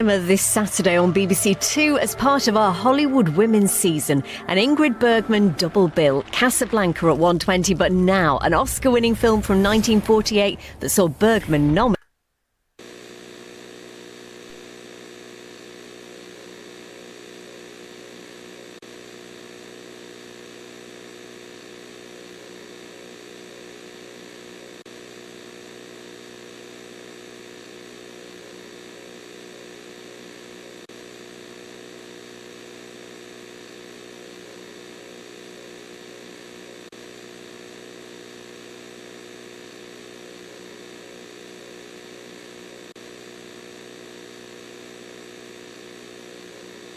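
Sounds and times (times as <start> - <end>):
steady electronic hum: 0.0 - 12.0, 12.8 - 46.9.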